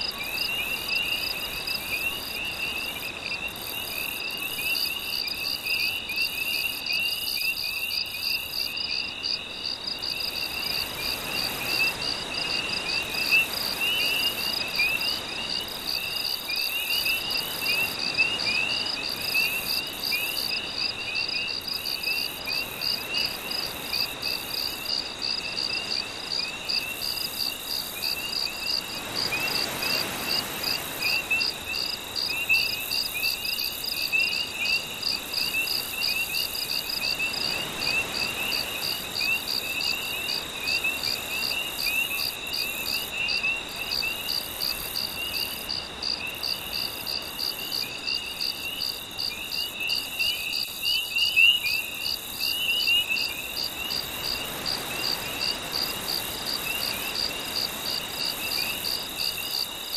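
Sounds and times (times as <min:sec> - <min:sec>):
frogs chirping: 0:00.0 - 0:59.9
insects trilling: 0:00.0 - 0:59.9.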